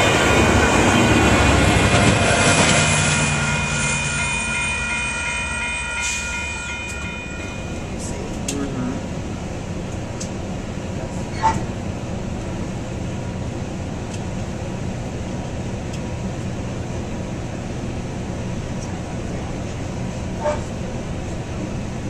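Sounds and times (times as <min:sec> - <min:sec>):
train coach rumble: 0:00.0 - 0:22.0.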